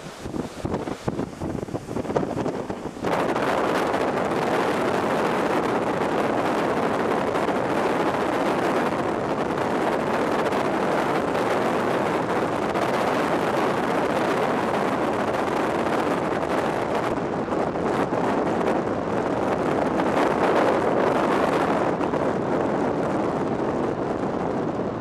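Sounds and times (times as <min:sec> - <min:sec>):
road noise: 0:00.0 - 0:25.0
wind buffeting microphone: 0:00.0 - 0:25.0
wind rush in moving vehicle: 0:00.0 - 0:25.0.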